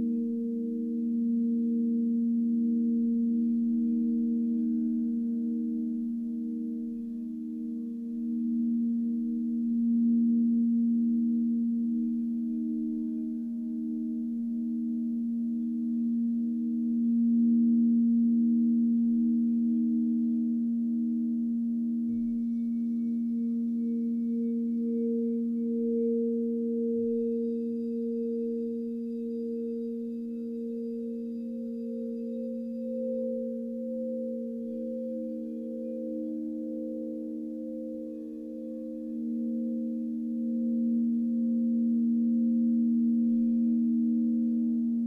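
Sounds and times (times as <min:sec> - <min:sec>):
crystal singing bowls ringing: 0:00.0 - 0:45.0
higher singing bowl tone: 0:00.0 - 0:45.0.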